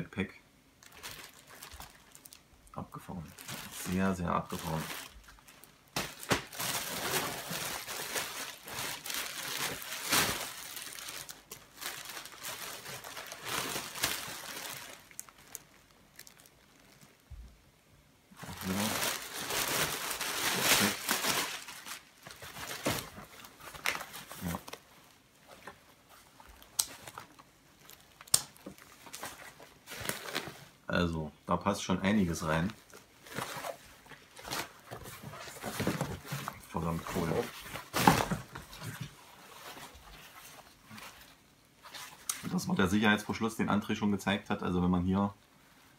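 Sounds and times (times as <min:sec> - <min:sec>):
plastic wrapping crinkling: 0:00.8 - 0:17.5, 0:18.3 - 0:30.8, 0:32.0 - 0:43.9.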